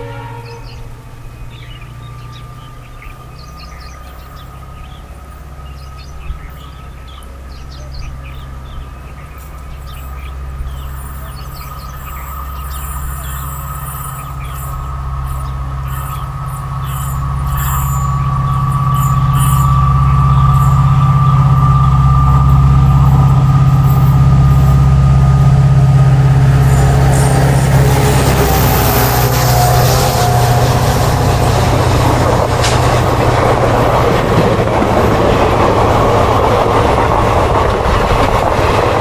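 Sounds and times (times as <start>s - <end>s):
diesel locomotive engine drone: 0.0s - 39.0s
rush of passing train: 0.0s - 39.0s.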